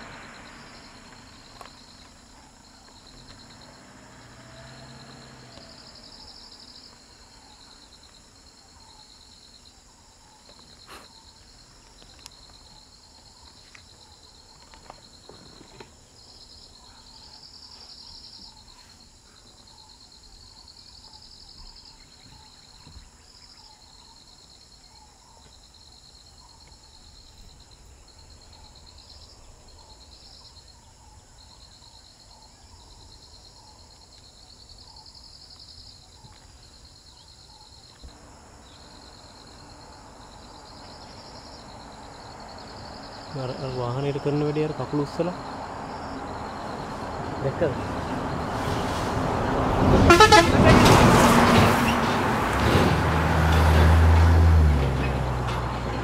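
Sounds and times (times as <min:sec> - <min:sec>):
insects chirping: 0:00.0 - 0:56.0.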